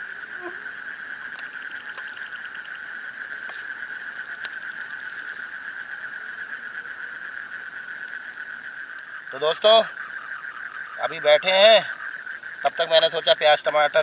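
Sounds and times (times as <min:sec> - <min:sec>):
campfire crackling and popping: 0:00.0 - 0:14.0
night insects chirring: 0:00.0 - 0:14.0.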